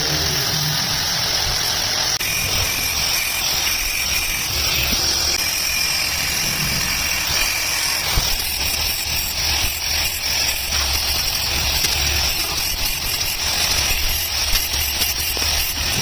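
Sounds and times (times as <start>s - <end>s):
machine noise hiss and rumble: 0.0s - 16.0s.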